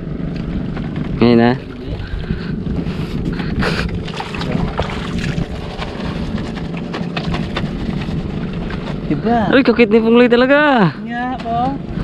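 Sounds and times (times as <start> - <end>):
wind buffeting microphone: 0.0 - 9.4, 11.4 - 12.0
steady low hum: 0.0 - 12.0.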